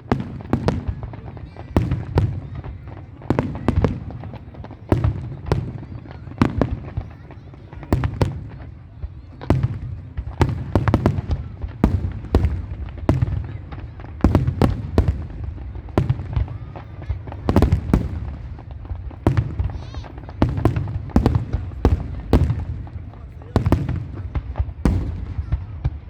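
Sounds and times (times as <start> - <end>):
distant fireworks rumble: 0.0 - 26.0
fireworks sharp bangs: 0.0 - 26.0.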